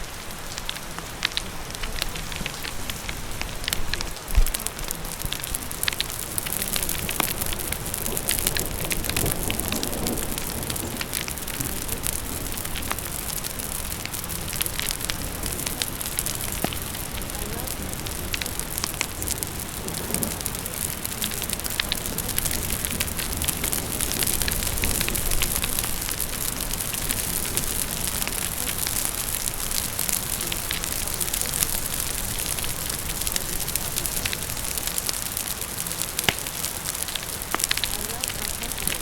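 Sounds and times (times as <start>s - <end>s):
steady rain: 0.0s - 39.0s
wood fire crackling: 0.0s - 39.0s.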